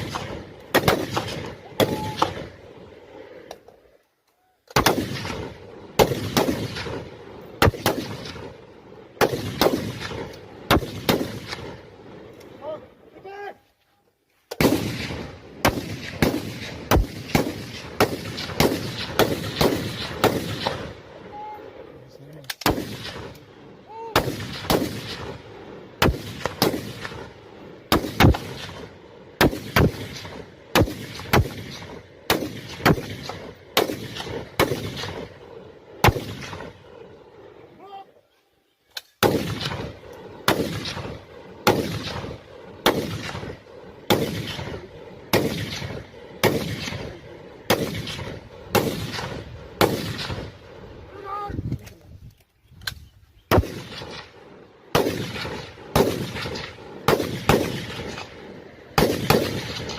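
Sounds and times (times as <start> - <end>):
rifle shots echoing: 0.0 - 3.4, 4.7 - 12.7, 14.5 - 21.9, 22.5 - 37.6, 38.9 - 51.1, 53.4 - 59.9.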